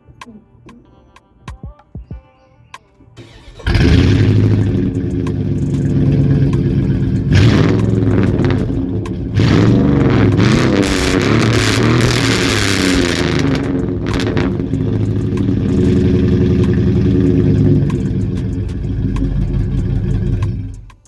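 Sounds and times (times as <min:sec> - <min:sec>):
vee eight engine revving: 0:03.2 - 0:21.0.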